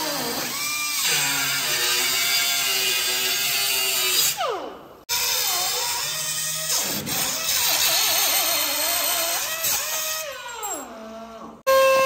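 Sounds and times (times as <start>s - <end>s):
power tool cutting metal: 0.0s - 10.8s.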